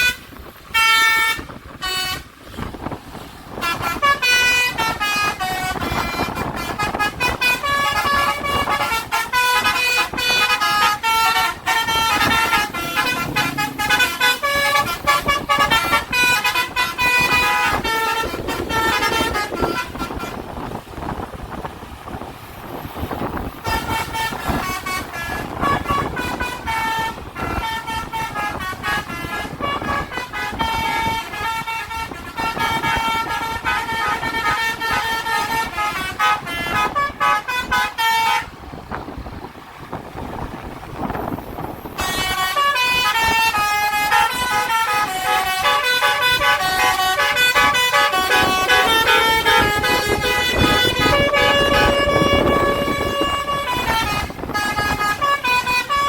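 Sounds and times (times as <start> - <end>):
multi-tone air horn melody: 0.0 - 2.9, 3.5 - 20.7, 23.2 - 38.6, 41.9 - 56.0
road and engine noise: 0.0 - 56.0.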